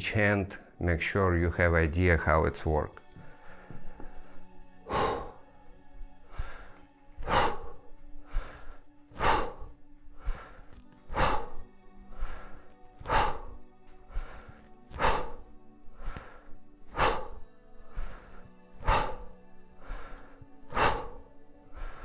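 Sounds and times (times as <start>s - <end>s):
man breathing hard: 3.2s - 22.0s.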